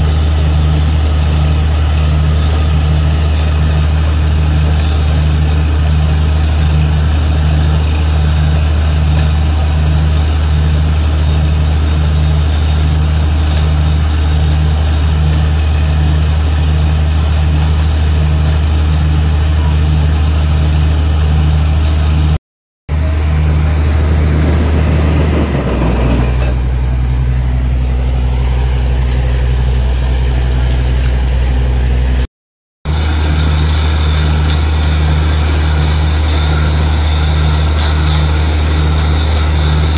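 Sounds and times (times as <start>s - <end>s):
drilling rig engine throbbing: 0.0s - 32.3s, 32.9s - 39.9s.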